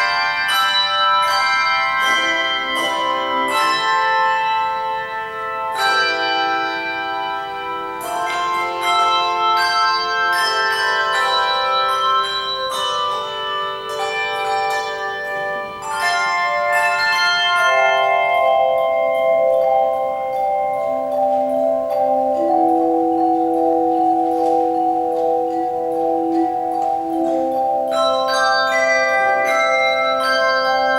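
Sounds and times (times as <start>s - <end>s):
handbell choir playing: 0.0s - 30.9s.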